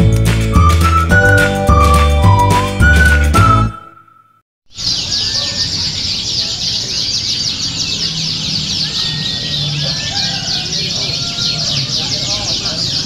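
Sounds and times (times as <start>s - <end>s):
canary singing: 0.6s - 13.0s.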